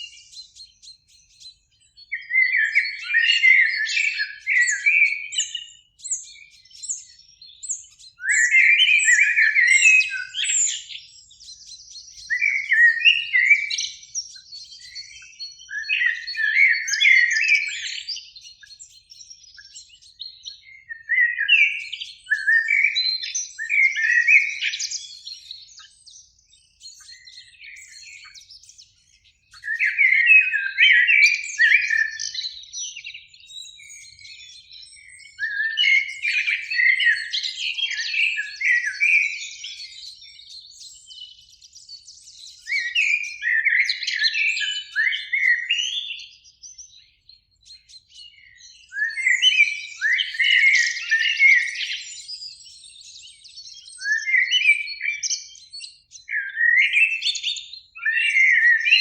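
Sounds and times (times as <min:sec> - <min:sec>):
blackbird singing: 0:00.0 - 0:59.0.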